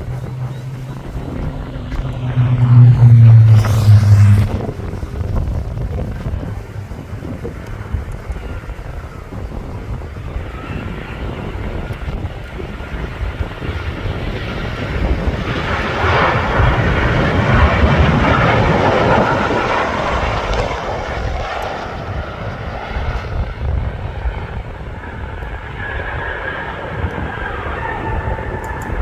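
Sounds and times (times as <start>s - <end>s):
jet engines roaring: 0.0s - 29.0s
wind on microphone: 0.0s - 29.0s.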